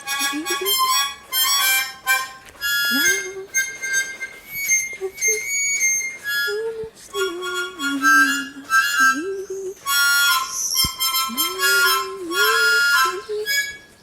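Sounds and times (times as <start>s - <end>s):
reedy wind-instrument melody: 0.0s - 14.0s.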